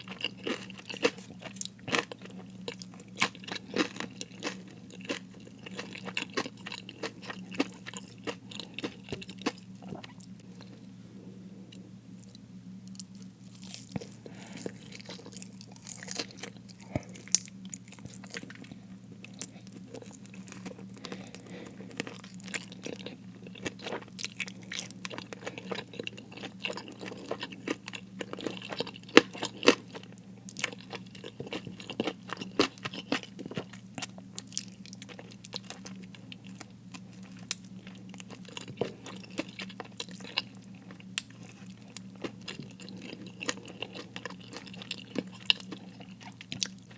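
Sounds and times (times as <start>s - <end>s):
chewing crispy food: 0.0s - 10.9s, 11.7s - 46.9s
faint low hum: 0.0s - 46.9s.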